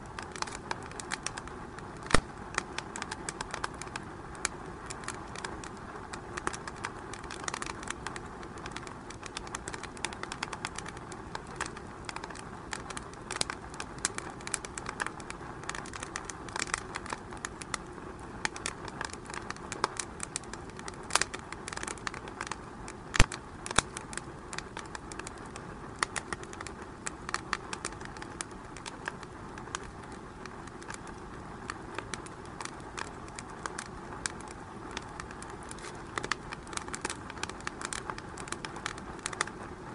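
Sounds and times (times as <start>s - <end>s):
fireplace fire crackling: 0.0s - 39.9s
low hiss: 0.0s - 39.9s.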